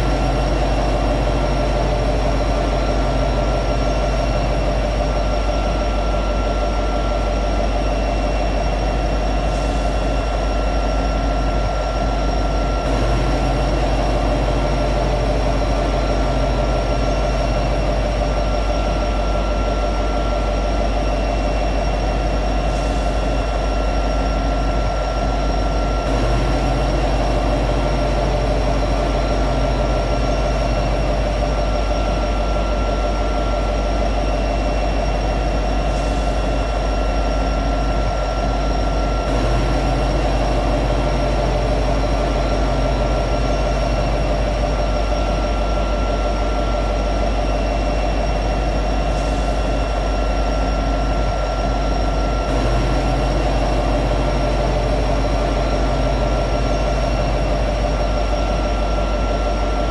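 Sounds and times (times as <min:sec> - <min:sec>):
diesel locomotive idling: 0:00.0 - 0:59.9
steady high whine: 0:00.0 - 0:59.9.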